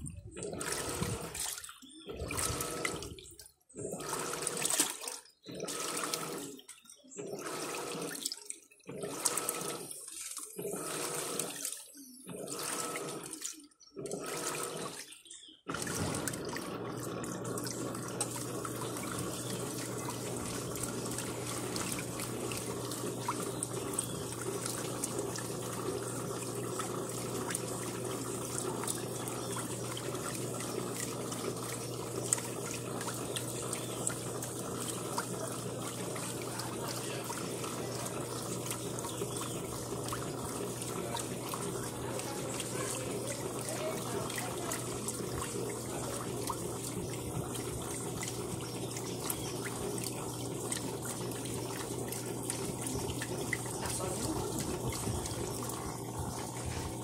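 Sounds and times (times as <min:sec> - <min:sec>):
rushing water with low hum: 0:00.0 - 0:06.6, 0:15.7 - 0:57.0
washing machine sloshing water: 0:00.0 - 0:57.0.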